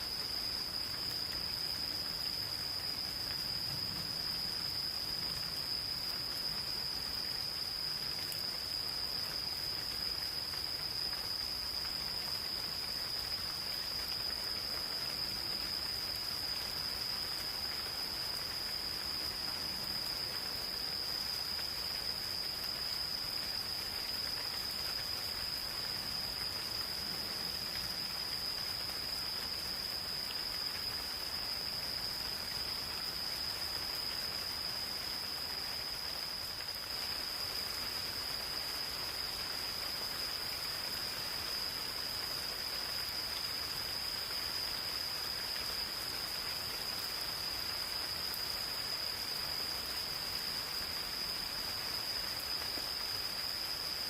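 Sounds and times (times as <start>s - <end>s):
gentle rain falling: 0.0s - 54.0s
insects trilling: 0.0s - 54.0s.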